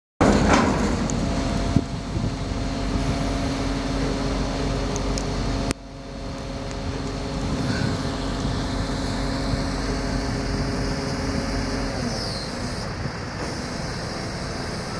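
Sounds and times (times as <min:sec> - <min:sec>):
low engine-like hum: 0:00.2 - 0:14.9
outdoor rumble and hiss: 0:00.2 - 0:14.9.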